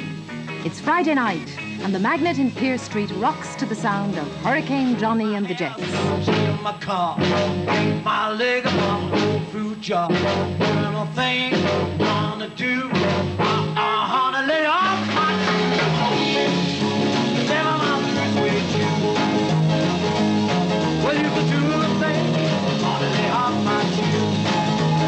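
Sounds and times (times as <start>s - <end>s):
person singing: 0.0s - 19.5s, 20.9s - 25.0s
rock band playing live: 0.0s - 25.0s.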